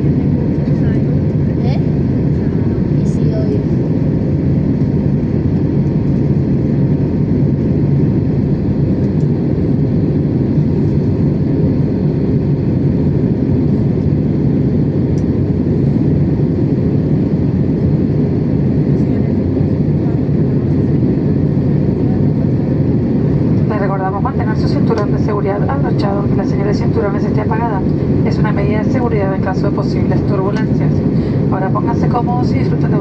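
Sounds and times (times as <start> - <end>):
faint steady hums: 0.0 - 33.0
jet engine rumble in cabin: 0.0 - 33.0.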